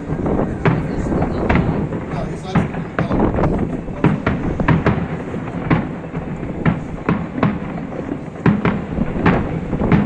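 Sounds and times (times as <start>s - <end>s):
continuous low rumble: 0.0s - 10.0s
fireworks bangs: 0.0s - 10.0s.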